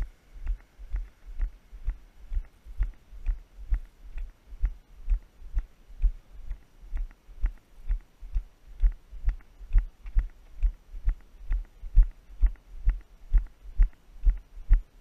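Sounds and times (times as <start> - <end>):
walking footsteps: 0.0 - 14.9.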